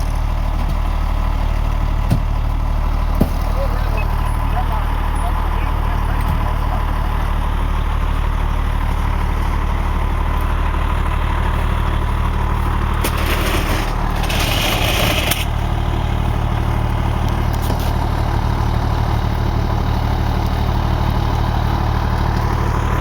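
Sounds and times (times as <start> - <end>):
fire engine engine humming: 0.0 - 23.0.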